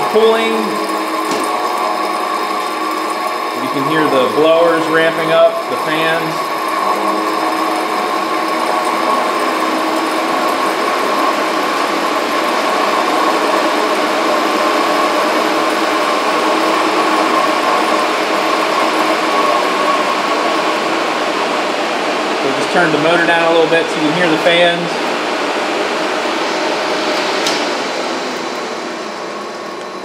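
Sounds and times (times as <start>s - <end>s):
motor humming and whining: 0.0s - 30.0s.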